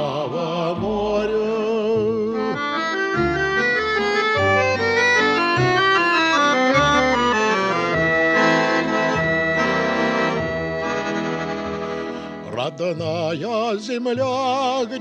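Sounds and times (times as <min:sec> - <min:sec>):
accordion music: 0:00.0 - 0:15.0.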